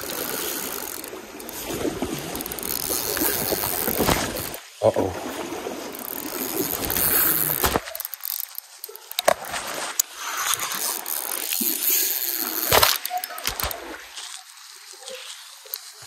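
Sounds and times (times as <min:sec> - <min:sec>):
fishing reel rattling and clicking: 0:00.0 - 0:04.6, 0:05.8 - 0:14.2
stream water rushing: 0:00.0 - 0:14.8.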